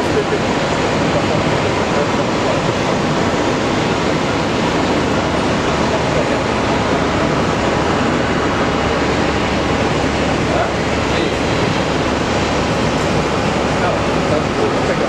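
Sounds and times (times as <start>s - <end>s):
jet engines rushing with whine: 0.0s - 15.0s.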